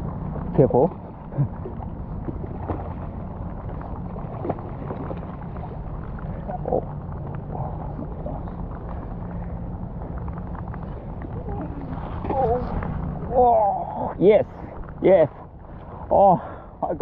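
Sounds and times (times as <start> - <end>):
wind and rain: 0.0 - 17.0.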